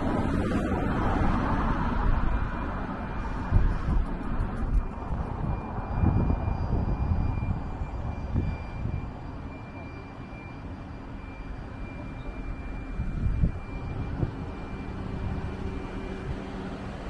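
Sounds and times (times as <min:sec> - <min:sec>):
passing traffic rumble: 0:00.0 - 0:17.0.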